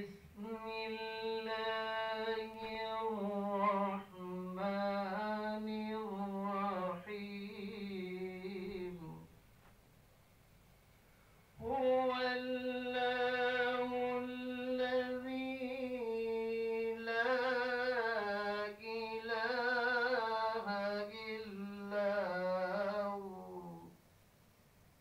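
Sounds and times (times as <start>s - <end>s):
person reciting melodically: 0.0s - 9.3s, 11.6s - 24.0s.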